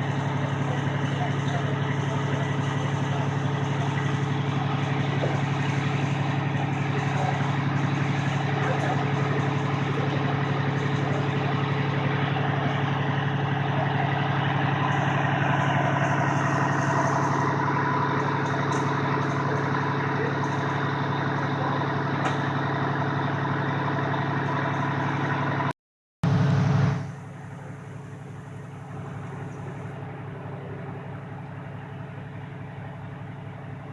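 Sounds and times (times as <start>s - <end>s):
heavy vehicle engine idling: 0.0s - 33.9s.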